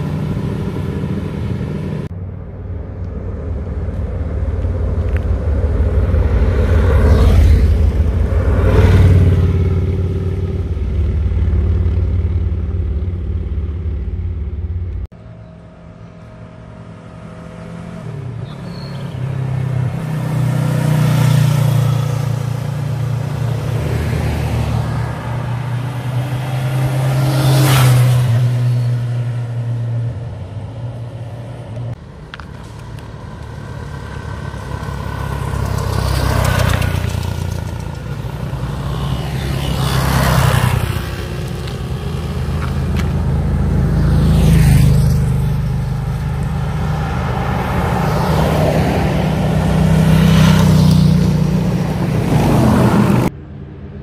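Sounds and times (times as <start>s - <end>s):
motorcycles riding past: 4.4s - 14.2s, 15.6s - 30.1s, 32.4s - 53.3s.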